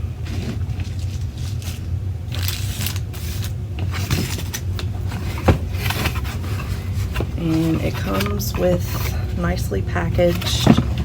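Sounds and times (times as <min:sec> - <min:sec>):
packaging rustling and scraping: 0:00.0 - 0:11.0
steady low hum: 0:00.0 - 0:11.0.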